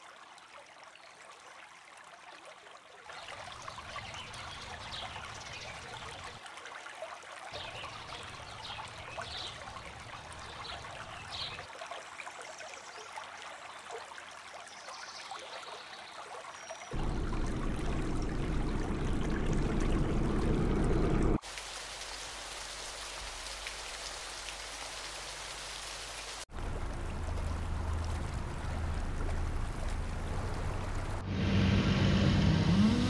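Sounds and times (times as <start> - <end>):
stream water trickling: 0.0 - 31.2.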